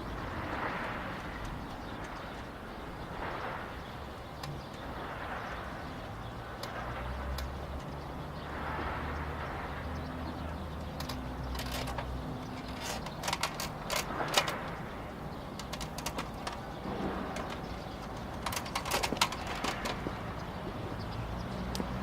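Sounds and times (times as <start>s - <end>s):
wheels clacking over rail joints: 0.0s - 22.0s.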